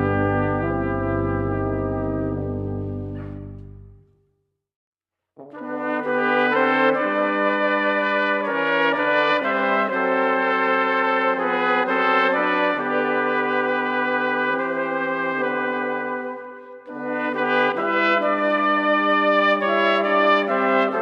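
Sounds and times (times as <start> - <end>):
brass ensemble playing a hymn: 0.0 - 3.9, 5.4 - 21.0.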